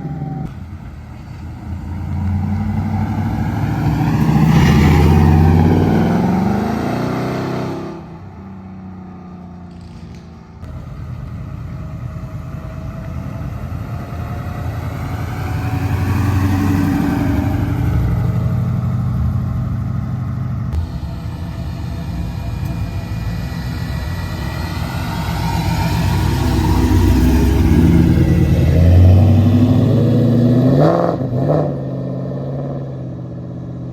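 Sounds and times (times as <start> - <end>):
cars driving past: 0.0 - 33.9.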